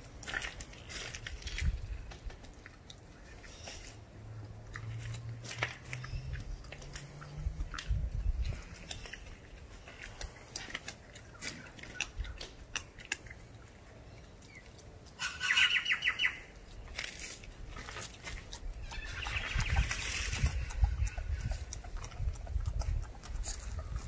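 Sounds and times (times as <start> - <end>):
puppy chewing meat and bone: 0.0 - 15.2, 16.4 - 24.0.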